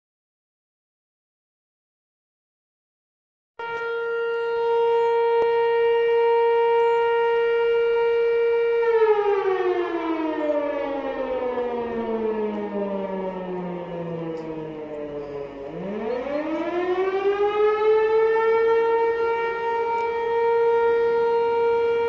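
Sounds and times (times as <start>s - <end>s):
siren wailing: 3.6s - 22.0s.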